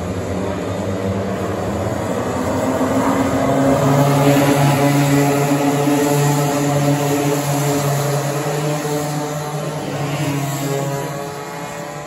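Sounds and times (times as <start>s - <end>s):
racing kart engines buzzing: 0.0s - 12.0s.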